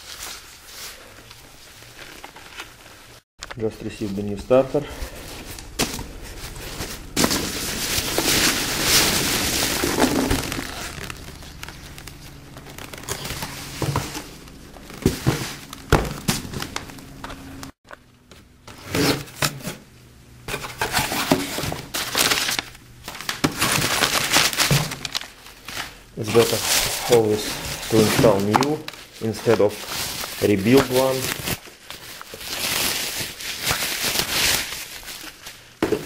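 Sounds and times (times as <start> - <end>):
crumpled paper crinkling: 0.0 - 17.8, 20.5 - 36.0
packing peanuts rustling: 0.0 - 17.8, 20.8 - 36.0.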